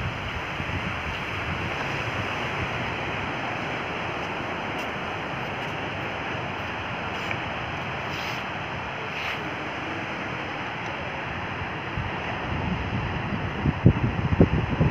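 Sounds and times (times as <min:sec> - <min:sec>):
surf washing up a sandy beach: 0:00.0 - 0:14.9
wind rumble on microphone: 0:00.0 - 0:14.9.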